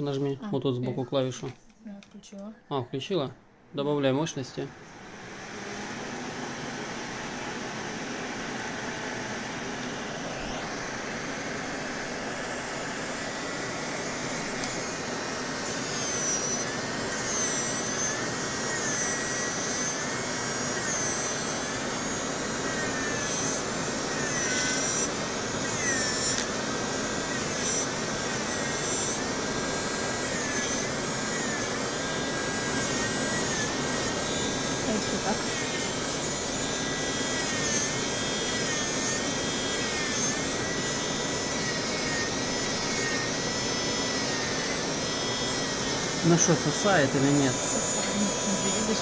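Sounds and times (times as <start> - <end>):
suction fan whooshing and whining: 4.7 - 49.0.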